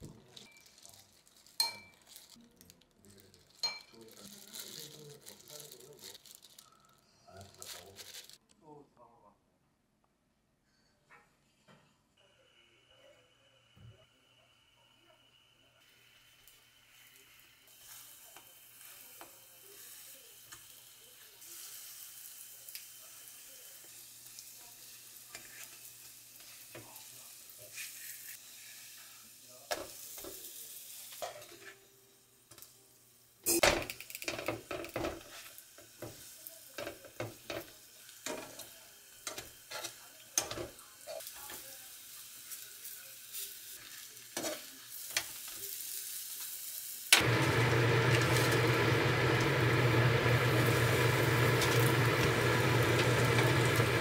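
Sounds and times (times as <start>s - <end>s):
pancakes sizzling in oil: 0.0s - 6.8s, 14.4s - 54.0s.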